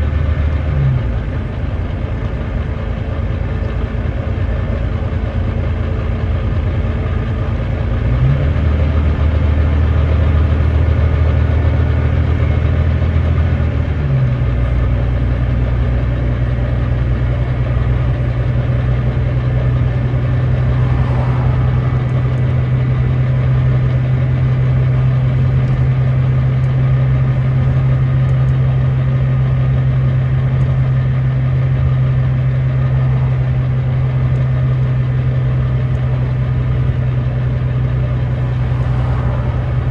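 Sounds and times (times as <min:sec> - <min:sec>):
bus diesel engine revving: 0:05.6 - 0:39.9.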